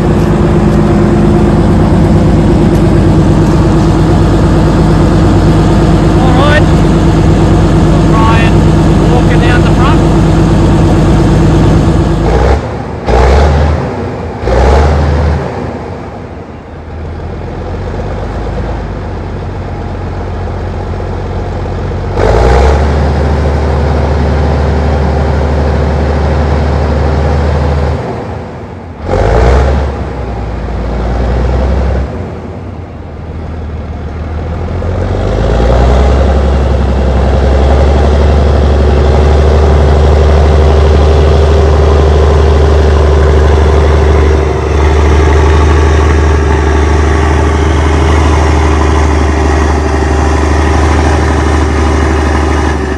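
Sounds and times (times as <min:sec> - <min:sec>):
dozer diesel engine revving: 0:00.0 - 0:52.9.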